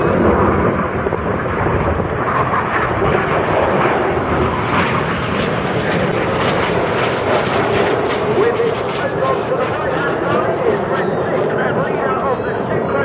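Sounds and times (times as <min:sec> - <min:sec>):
jets flying past: 0:00.0 - 0:13.0.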